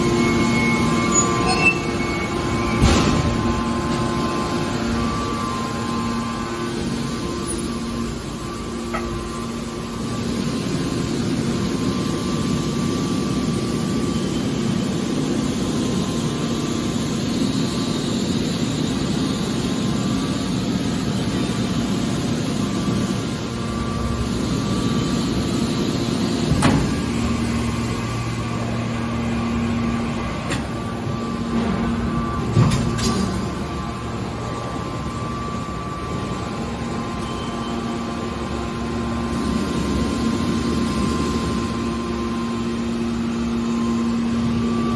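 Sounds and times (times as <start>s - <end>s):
baler machine humming: 0.0s - 44.9s.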